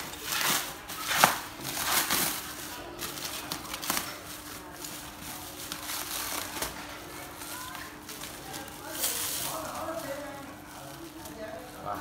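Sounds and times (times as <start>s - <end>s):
plastic wrap tearing and crinkling: 0.0s - 12.0s.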